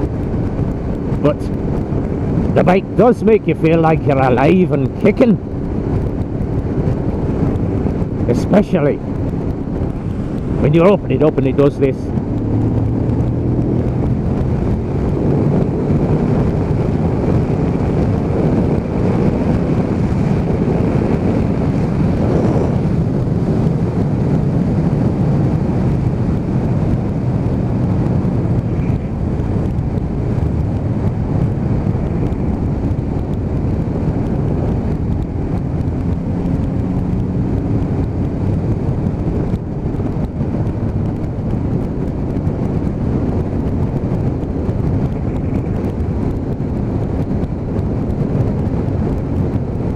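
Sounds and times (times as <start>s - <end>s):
motorcycle engine accelerating: 0.0s - 49.9s
wind rush on microphone: 0.0s - 49.9s.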